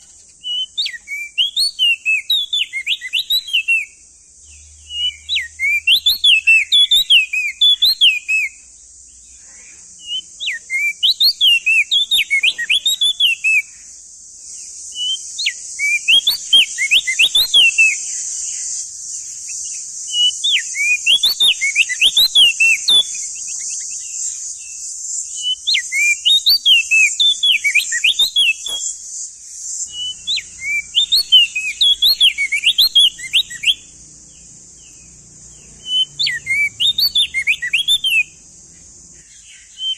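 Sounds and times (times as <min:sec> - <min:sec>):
bird singing whistled phrases: 0:00.0 - 0:08.7, 0:10.0 - 0:13.8, 0:14.9 - 0:29.0, 0:29.7 - 0:35.0, 0:35.6 - 0:39.9
steady high hiss: 0:00.0 - 0:39.9.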